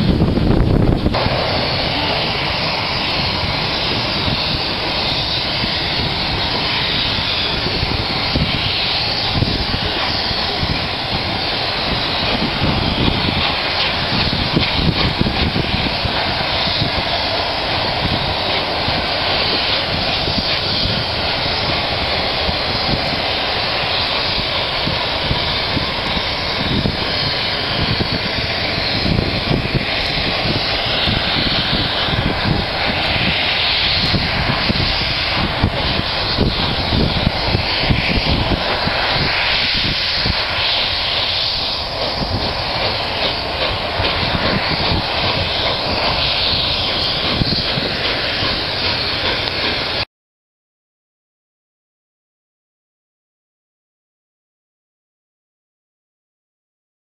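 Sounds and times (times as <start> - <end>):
steam locomotive exhaust: 0.0 - 50.1.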